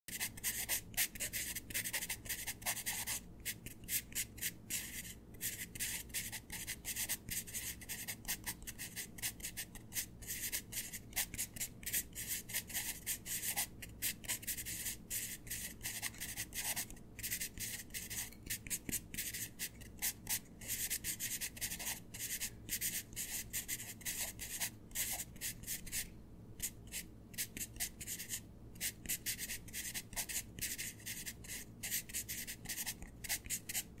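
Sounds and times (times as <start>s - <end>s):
pencil writing on paper: 0.1s - 34.0s.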